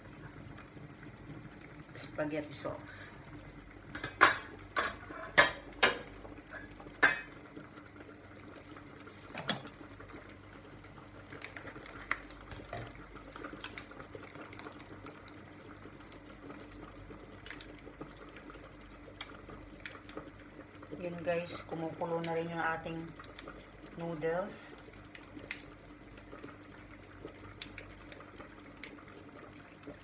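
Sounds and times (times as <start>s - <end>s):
pots boiling and bubbling: 0.0s - 30.0s.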